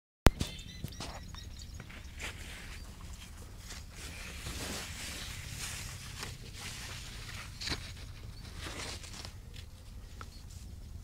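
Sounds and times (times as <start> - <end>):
steady hiss and low hum: 1.1 - 11.0
leaves rustling and crackling: 1.9 - 11.0.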